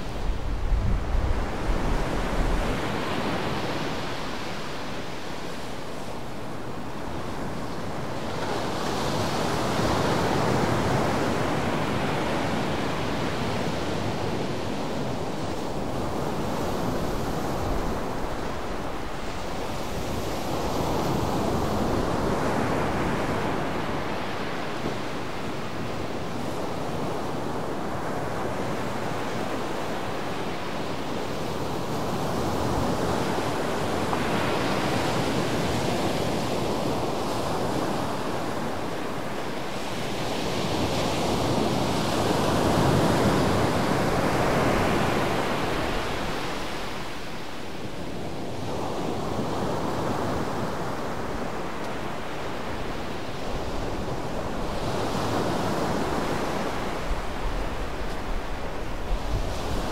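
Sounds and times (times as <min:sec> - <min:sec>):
waves washing up a beach: 0:00.0 - 0:59.9.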